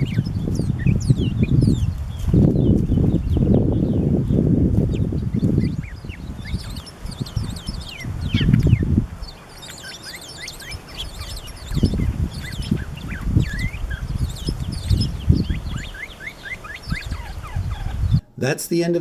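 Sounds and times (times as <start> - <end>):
bird calls: 0.0 - 18.3
small birds chirping: 0.0 - 18.8.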